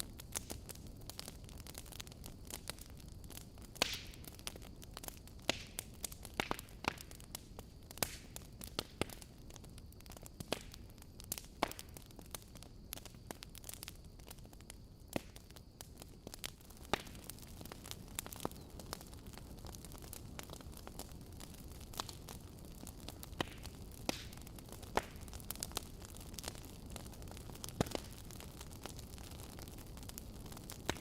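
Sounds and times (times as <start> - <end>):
campfire crackling and popping: 0.0 - 31.0
low hiss of fire: 0.0 - 31.0.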